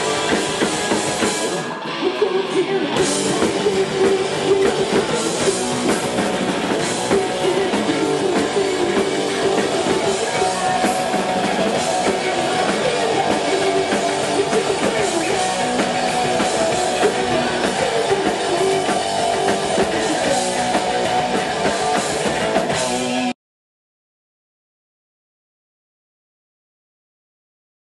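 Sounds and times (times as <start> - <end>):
punk rock band playing: 0.0 - 23.3.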